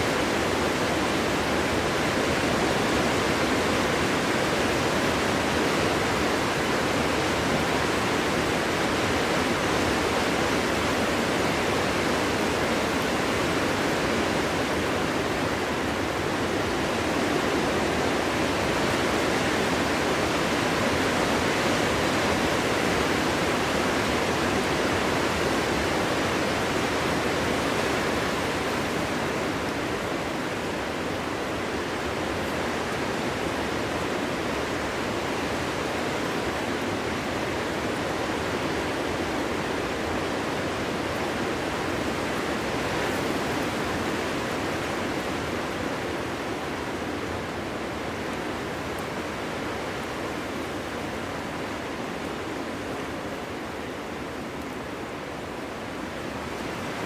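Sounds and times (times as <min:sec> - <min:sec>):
strong wind blowing through forest: 0:00.0 - 0:57.0.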